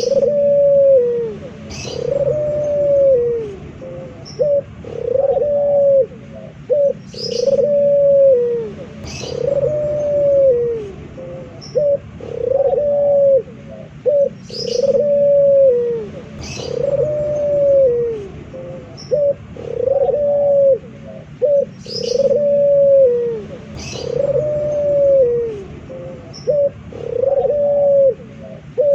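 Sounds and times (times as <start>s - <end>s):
bird chirps: 0.0s - 27.7s
dove cooing: 0.0s - 28.9s.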